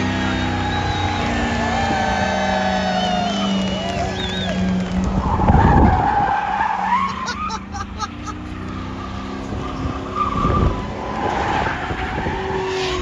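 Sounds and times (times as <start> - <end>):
car engine revving: 0.0 - 13.0
tyres squealing and skidding: 0.0 - 13.0.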